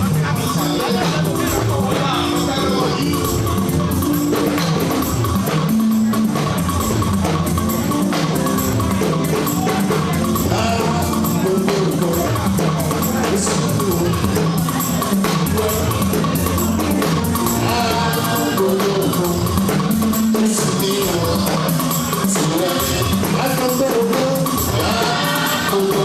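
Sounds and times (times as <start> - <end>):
drum kit beat: 0.0 - 26.0
keyboard notes: 0.0 - 26.0.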